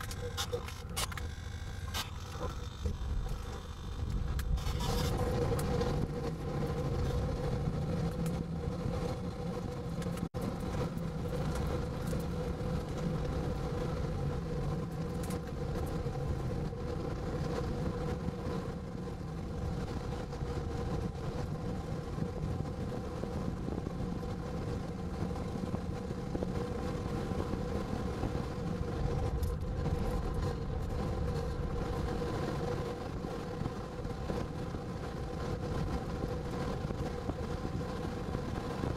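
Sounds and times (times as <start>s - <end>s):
moving vehicle drone: 0.0s - 38.9s.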